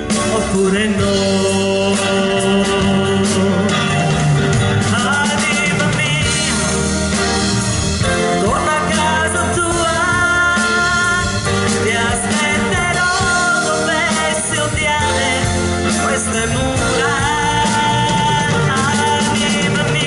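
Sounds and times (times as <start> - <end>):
drums: 0.0 - 20.0
electric guitars: 0.0 - 20.0
keyboards: 0.0 - 20.0.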